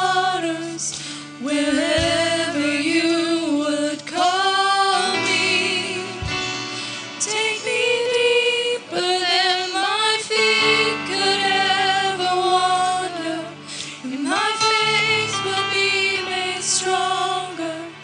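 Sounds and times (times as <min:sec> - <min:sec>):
woman singing: 0:00.0 - 0:06.4, 0:07.2 - 0:18.0
sustained keyboard chords: 0:00.0 - 0:18.0.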